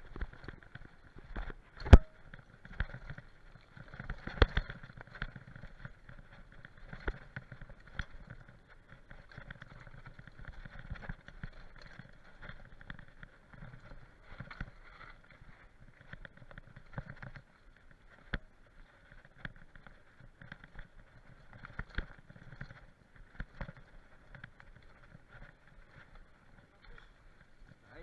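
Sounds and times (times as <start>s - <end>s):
mountain bike rattling and knocking: 0.0s - 28.0s.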